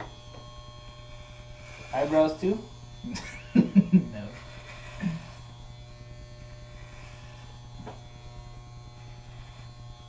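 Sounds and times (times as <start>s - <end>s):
electric hair clippers buzzing: 0.0s - 10.0s.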